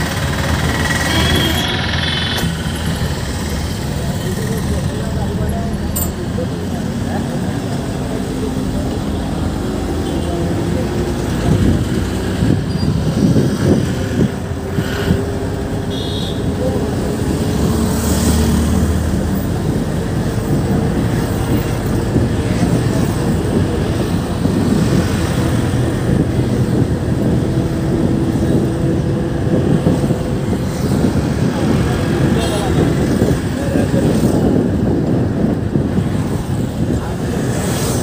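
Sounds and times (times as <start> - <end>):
bus engine running: 0.0 - 38.0
road rumble: 0.0 - 38.0.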